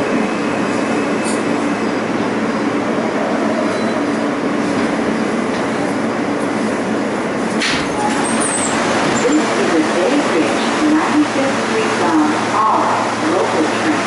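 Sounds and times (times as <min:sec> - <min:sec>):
subway train rumble and wheel noise: 0:00.0 - 0:14.0.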